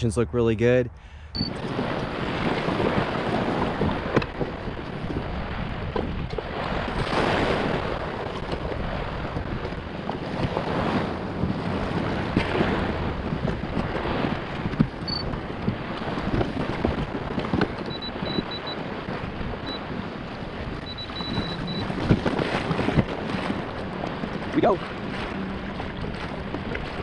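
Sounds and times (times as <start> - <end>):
wind buffeting microphone: 0.0 - 27.0
small waves washing up beach: 1.4 - 27.0.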